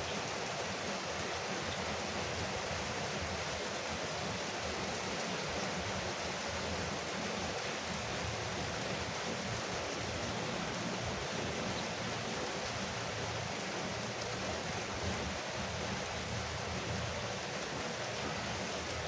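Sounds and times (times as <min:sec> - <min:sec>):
rain on a roof: 0:00.0 - 0:19.0.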